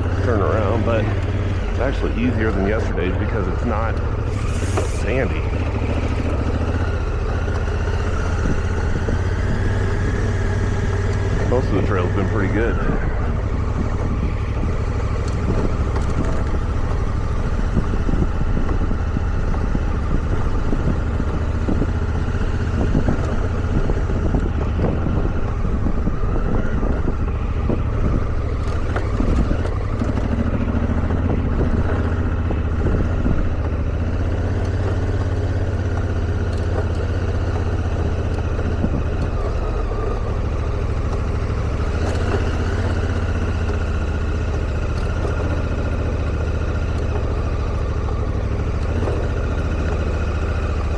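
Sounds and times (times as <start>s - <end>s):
motorcycle engine droning: 0.0s - 50.9s
road noise: 0.0s - 50.9s.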